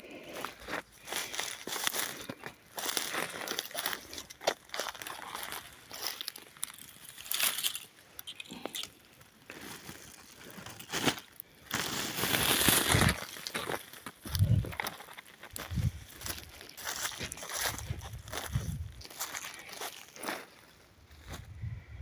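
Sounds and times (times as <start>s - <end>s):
dry leaves crunching and crackling: 0.2s - 21.4s.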